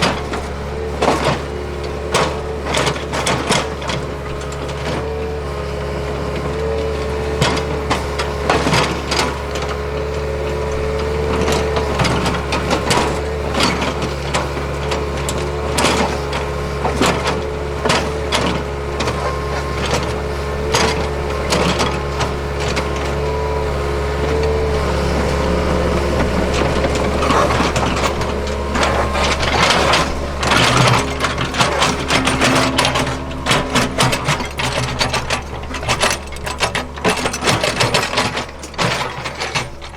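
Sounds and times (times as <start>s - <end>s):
excavator diesel engine running: 0.0s - 39.9s
hydraulic whine: 0.0s - 39.9s
machine clanking on gravel: 0.0s - 39.9s.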